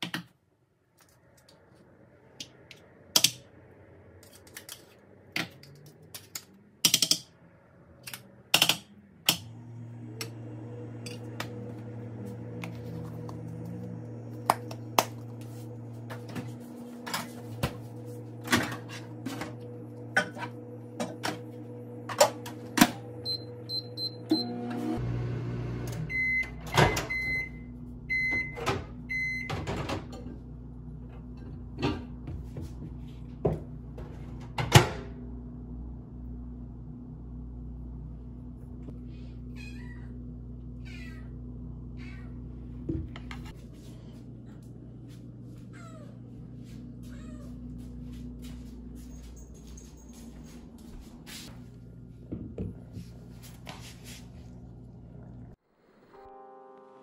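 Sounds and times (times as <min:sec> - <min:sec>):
microwave oven humming: 0:09.2 - 0:56.1.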